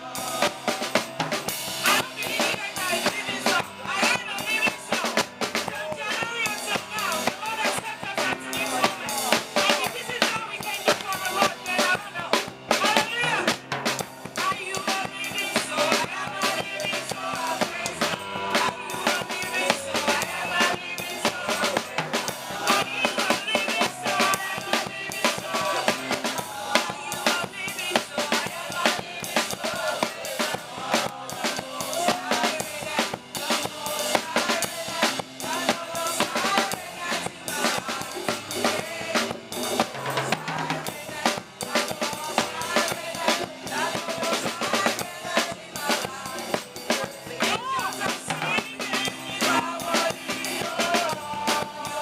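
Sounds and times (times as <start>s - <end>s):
gospel band music: 0.0s - 52.0s
kick and snare drum beat: 0.0s - 52.0s.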